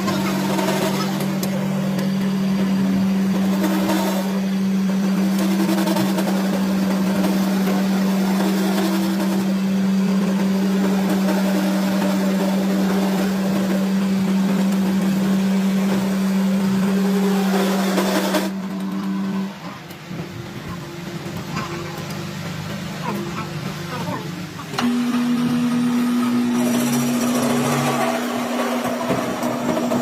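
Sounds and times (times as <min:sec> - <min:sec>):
workshop machine humming: 0:00.0 - 0:30.0.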